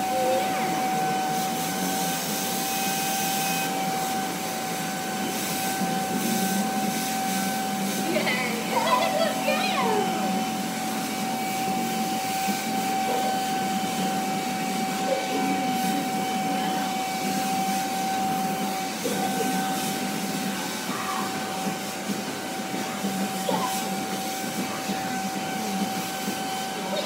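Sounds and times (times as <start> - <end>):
vacuum cleaner whining: 0.0 - 27.0.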